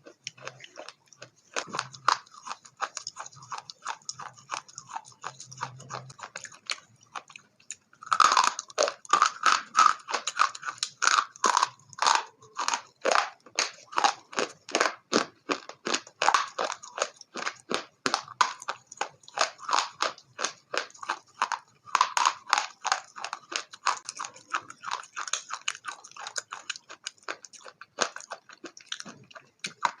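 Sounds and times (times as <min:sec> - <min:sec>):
crunchy food being chewed: 0:00.0 - 0:30.0.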